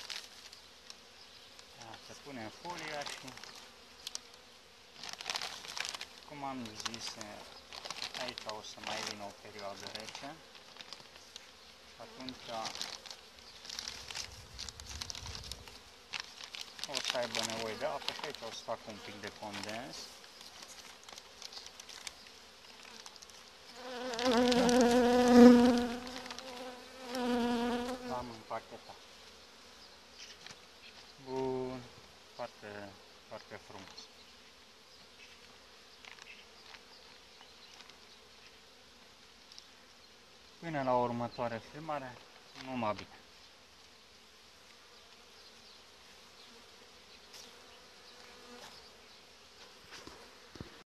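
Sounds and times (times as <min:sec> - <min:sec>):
honeybee buzzing: 0:00.0 - 0:40.6, 0:43.8 - 0:50.8.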